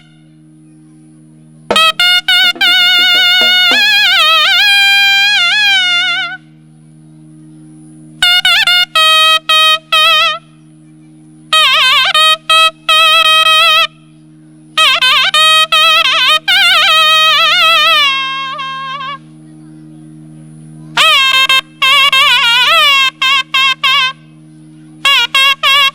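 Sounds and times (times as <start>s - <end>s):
reed wind instrument melody: 0.0s - 25.9s
steady drone: 0.0s - 25.9s.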